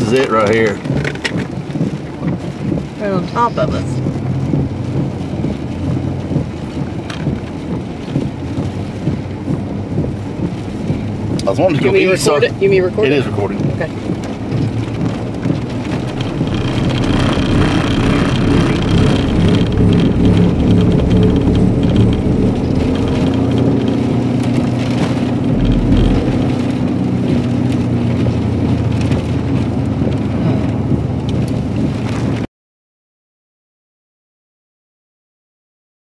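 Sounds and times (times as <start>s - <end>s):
car engine drone: 0.0s - 32.5s
tyre and wind noise: 0.0s - 32.5s.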